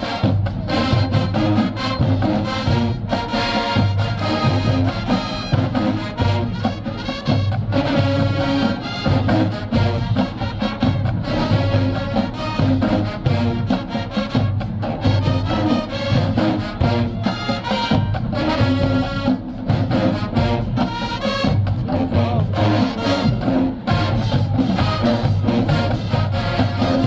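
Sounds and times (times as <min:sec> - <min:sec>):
brass band playing: 0:00.0 - 0:27.0.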